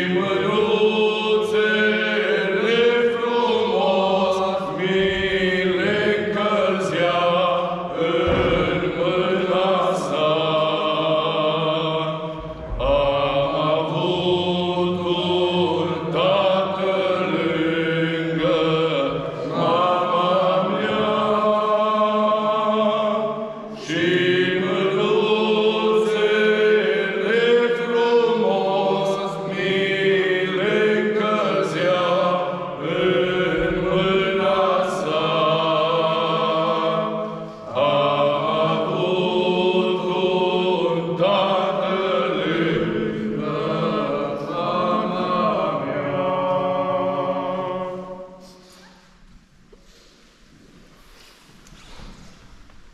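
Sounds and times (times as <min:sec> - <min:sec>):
group singing unaccompanied chant: 0:00.0 - 0:48.9.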